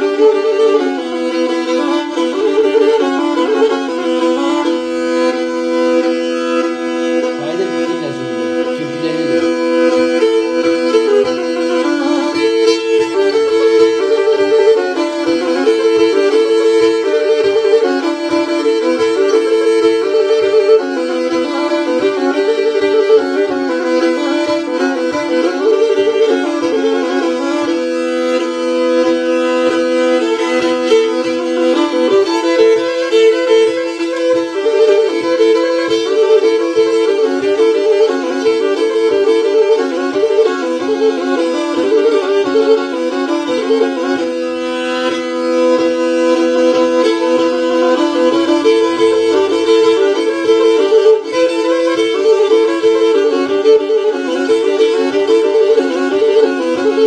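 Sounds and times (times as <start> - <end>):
bowed string instrument playing: 0.0 - 57.0.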